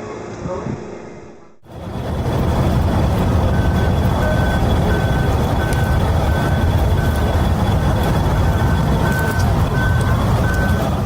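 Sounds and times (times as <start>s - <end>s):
reversing beeper: 1.6s - 11.0s
vehicle motor rumbling: 1.6s - 11.0s.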